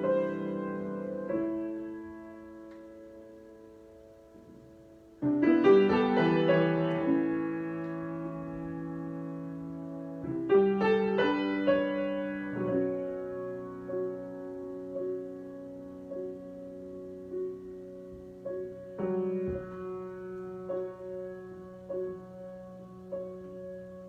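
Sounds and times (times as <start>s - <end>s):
solo piano: 0.0s - 24.0s.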